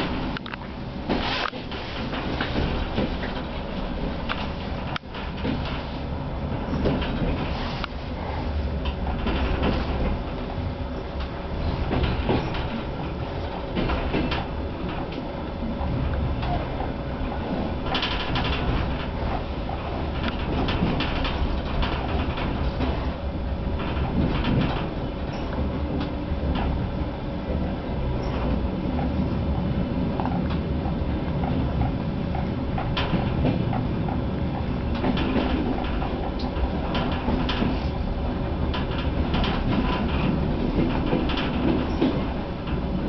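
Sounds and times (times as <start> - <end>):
constant hum: 0.0 - 43.0
train engine rumble: 0.0 - 43.0
wheels clacking over rail joints: 0.0 - 43.0.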